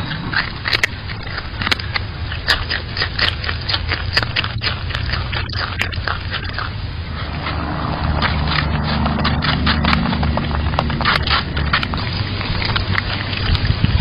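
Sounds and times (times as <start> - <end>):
animal chewing with crunching clicks: 0.0 - 14.0
steady low hum: 0.0 - 14.0.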